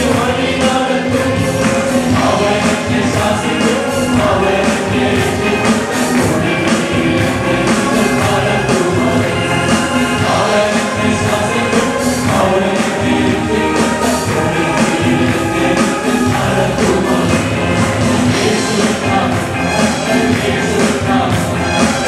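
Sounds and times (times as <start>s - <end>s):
band playing: 0.0s - 22.0s
gospel singing: 0.0s - 22.0s
percussion beat: 0.0s - 22.0s.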